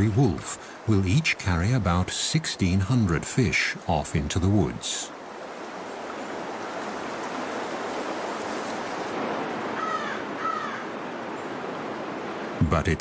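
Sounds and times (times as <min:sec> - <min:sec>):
creek rushing: 0:00.0 - 0:13.0.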